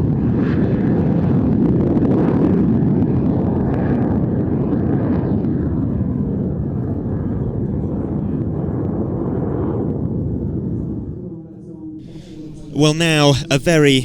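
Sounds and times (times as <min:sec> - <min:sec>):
jet engine deep rumble: 0:00.0 - 0:11.5.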